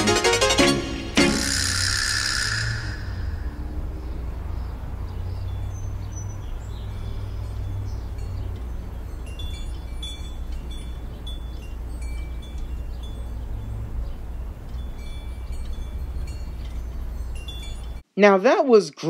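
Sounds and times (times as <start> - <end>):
chimes tinkling: 0.7 - 18.0.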